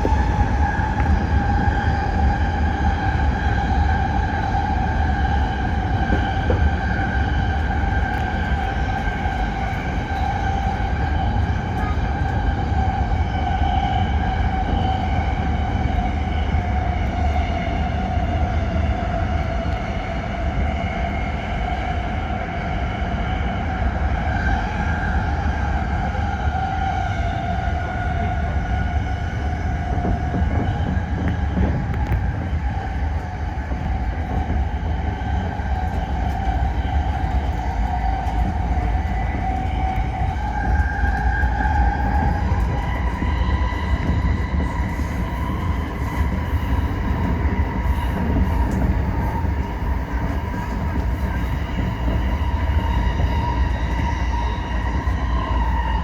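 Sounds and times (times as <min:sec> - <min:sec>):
electric train whine: 0:00.0 - 0:56.0
train wheels rumbling on rails: 0:00.0 - 0:56.0.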